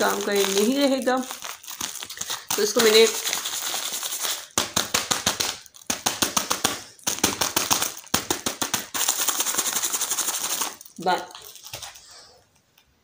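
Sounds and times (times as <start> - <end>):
plastic packet crinkling: 0.0 - 12.9.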